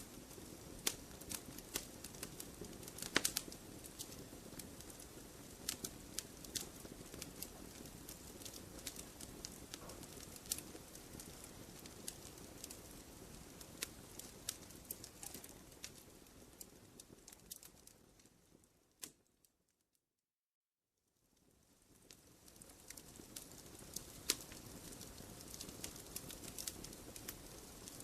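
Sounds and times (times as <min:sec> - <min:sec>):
wood fire crackling: 0:00.0 - 0:19.4, 0:21.3 - 0:28.0.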